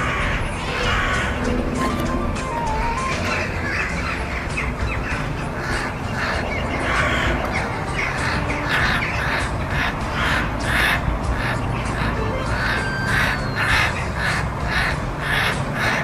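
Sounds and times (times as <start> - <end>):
crows cawing: 0.0 - 16.0.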